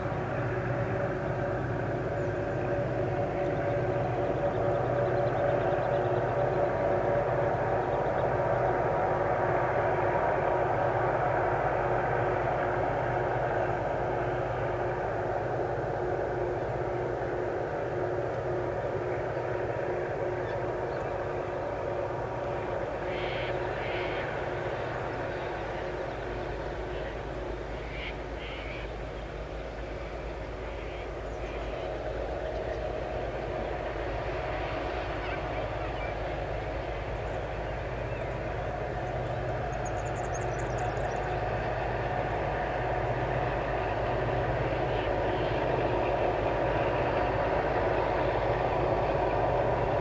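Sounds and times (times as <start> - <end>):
distant locomotive engine drone: 0.0 - 50.0.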